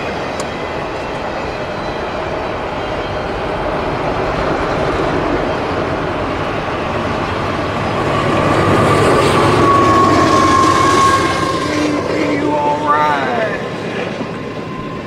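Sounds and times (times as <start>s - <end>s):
freight train rumble and clatter: 0.0s - 15.0s.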